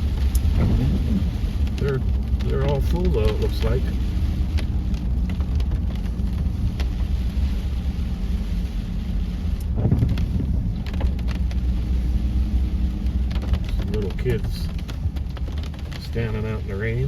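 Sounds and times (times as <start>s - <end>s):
car engine and road rumble: 0.0s - 17.0s
rain ticking on car: 0.0s - 17.0s.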